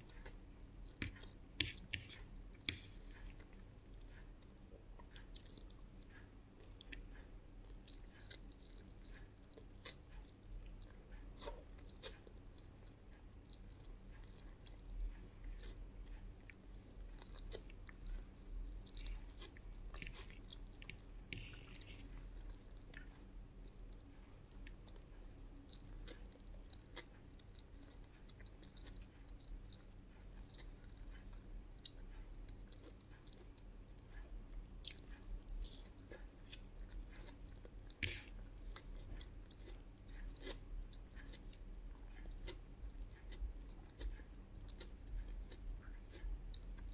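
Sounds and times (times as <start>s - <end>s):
soft chewing with crunches: 0.0s - 46.9s.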